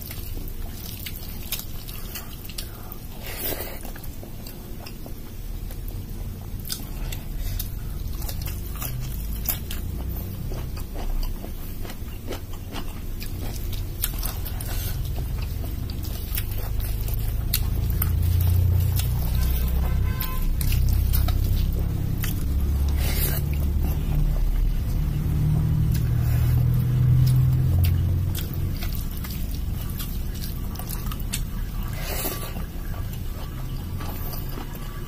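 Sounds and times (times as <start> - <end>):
chewing rice: 0.0 - 35.0
low hum: 0.0 - 35.0.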